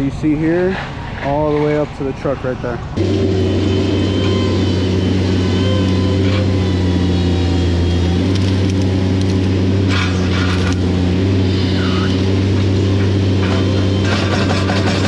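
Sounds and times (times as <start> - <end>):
skid steer engine humming: 2.7 - 15.0.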